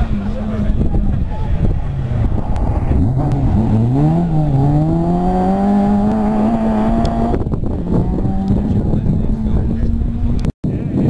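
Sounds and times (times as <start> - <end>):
rally car engine accelerating: 0.0 - 10.5.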